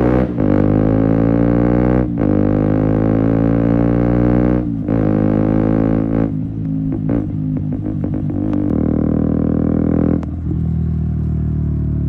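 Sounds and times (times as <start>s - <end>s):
motorcycle engine accelerating hard: 0.0s - 12.0s.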